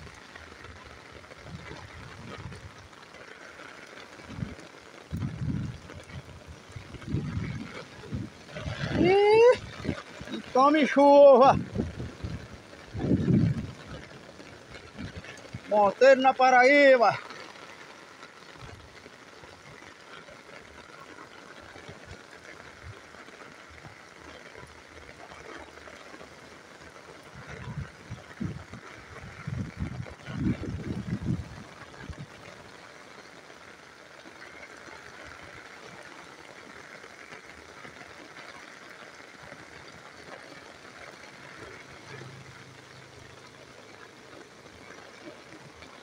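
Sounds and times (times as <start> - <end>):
heavy rain falling: 0.0 - 46.0
runoff water flowing: 0.0 - 46.0.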